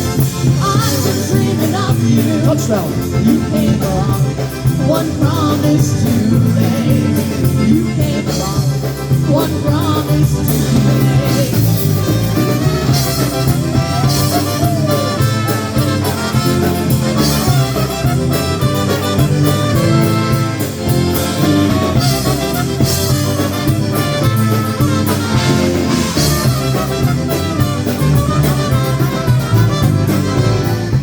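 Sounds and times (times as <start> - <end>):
polka band playing: 0.0 - 31.0
steady drum beat: 0.0 - 31.0.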